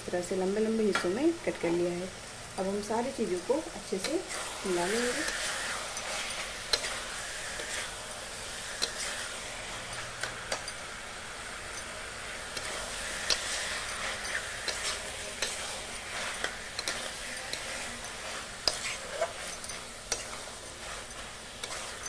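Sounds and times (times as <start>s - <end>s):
low sizzle: 0.0s - 22.0s
spatula scraping a pan: 3.9s - 22.0s.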